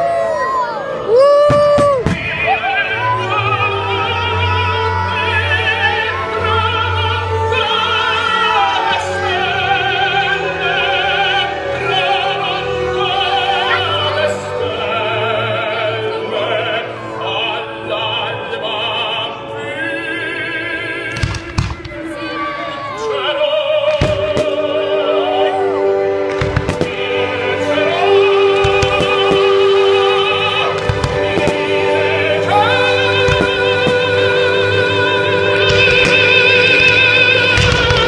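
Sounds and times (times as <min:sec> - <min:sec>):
operatic singing: 0:00.0 - 0:38.0
orchestral accompaniment: 0:00.0 - 0:38.0.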